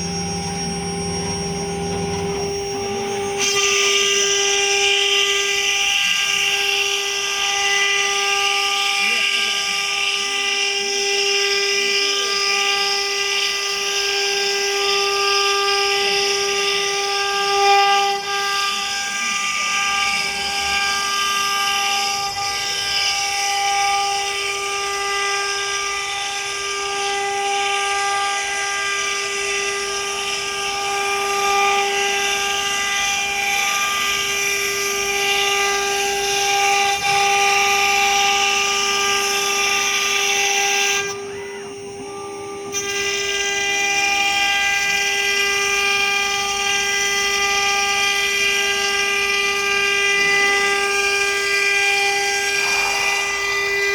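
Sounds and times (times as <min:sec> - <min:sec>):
wood router spindle whining: 0:00.0 - 0:53.9.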